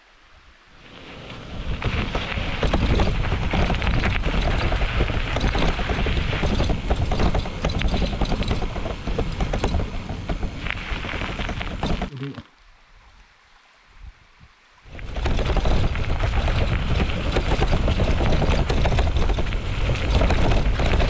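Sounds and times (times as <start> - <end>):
bicycle tyres crackling on gravel: 0.8 - 12.1, 14.9 - 21.0
wind buffeting microphone: 1.1 - 12.1, 14.9 - 21.0.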